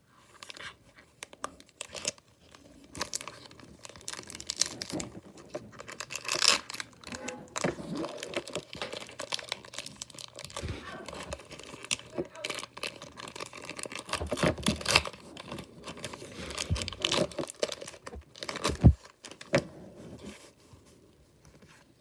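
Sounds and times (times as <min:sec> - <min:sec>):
foil wrapper crinkling and tearing: 0:00.4 - 0:19.6.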